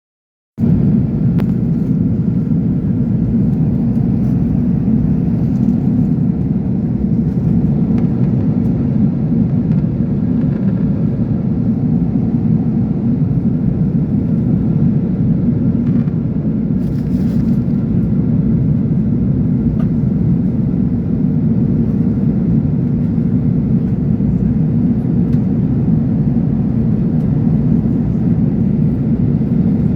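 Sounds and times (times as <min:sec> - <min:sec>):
jet engines and airflow roar: 0:00.6 - 0:29.9.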